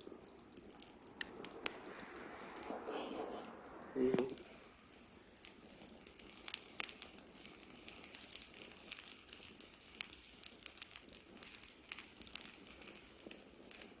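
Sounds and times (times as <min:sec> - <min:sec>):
campfire crackling: 0:00.0 - 0:14.0
faint hiss: 0:00.0 - 0:14.0.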